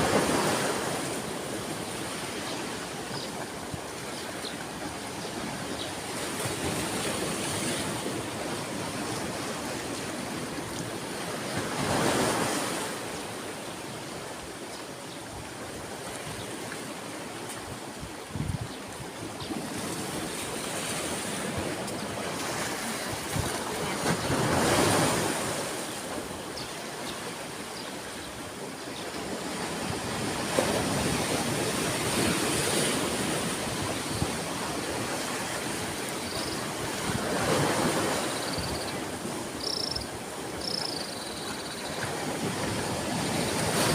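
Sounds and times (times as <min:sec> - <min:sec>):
ocean waves washing onto shore: 0:00.0 - 0:43.9.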